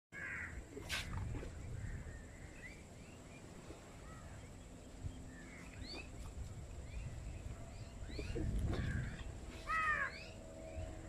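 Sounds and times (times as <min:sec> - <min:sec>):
small birds chirping: 0:01.4 - 0:10.9.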